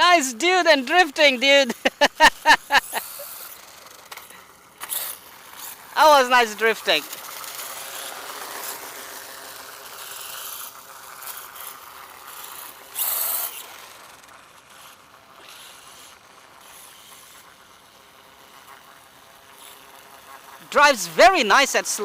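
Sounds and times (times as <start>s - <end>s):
rc bike rattle and hiss: 0.0s - 22.0s.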